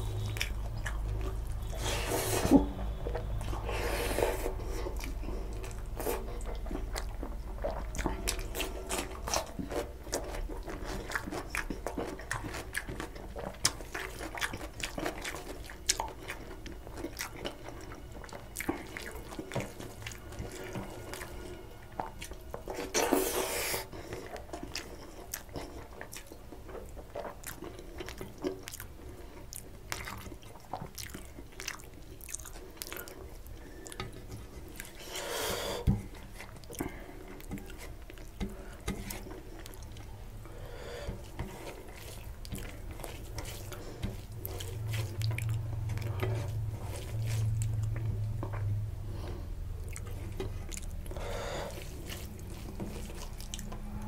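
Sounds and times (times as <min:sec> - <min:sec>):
chewing with wet mouth clicks: 0:00.0 - 0:01.8, 0:04.4 - 0:35.2, 0:35.8 - 0:54.0.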